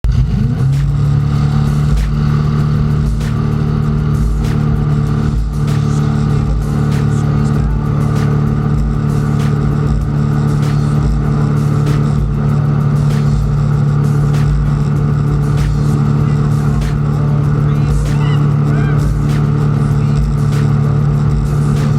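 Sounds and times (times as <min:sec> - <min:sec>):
boat engine high-rpm drone: 0:00.0 - 0:21.9
low buffeting: 0:00.0 - 0:21.9.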